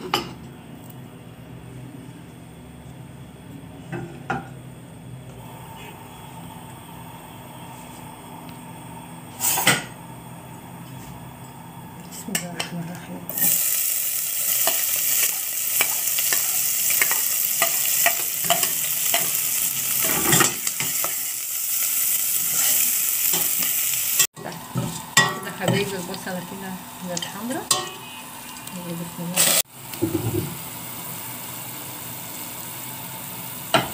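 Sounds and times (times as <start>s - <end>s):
onion sizzling in hot oil: 5.4s - 33.9s.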